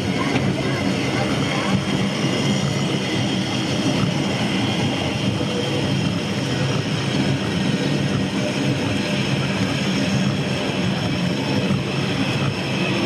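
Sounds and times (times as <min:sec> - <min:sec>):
cable car running on rails: 0:00.0 - 0:13.0.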